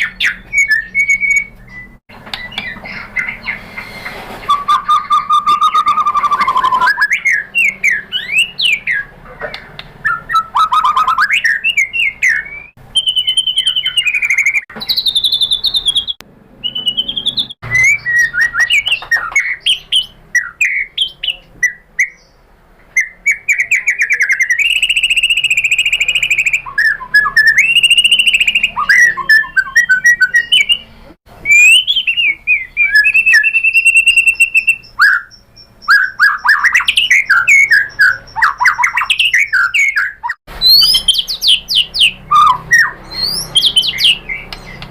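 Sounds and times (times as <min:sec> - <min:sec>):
songbird singing varied song: 0:00.0 - 0:44.9.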